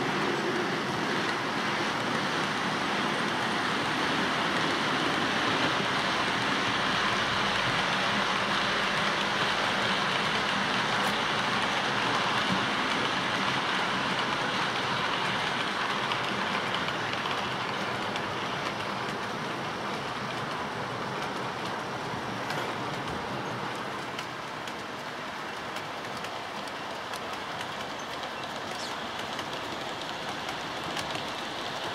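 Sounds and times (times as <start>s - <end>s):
model train wheels rattling on rail: 0.0s - 31.9s.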